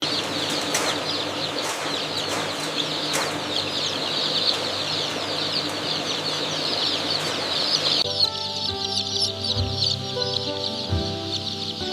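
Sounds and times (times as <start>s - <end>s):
chickens peeping and clucking: 0.0s - 11.9s.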